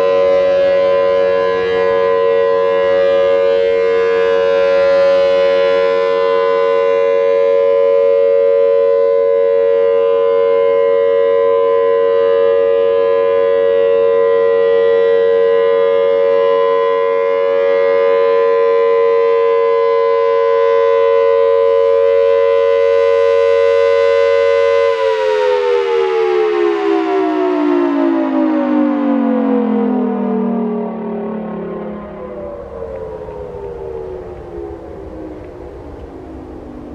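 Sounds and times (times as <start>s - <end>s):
warning siren alert tone: 0.0s - 36.9s.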